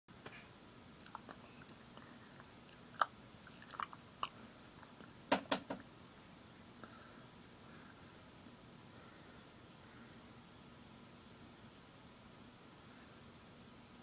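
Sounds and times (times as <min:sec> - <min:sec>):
faint steady hiss: 0:00.1 - 0:14.0.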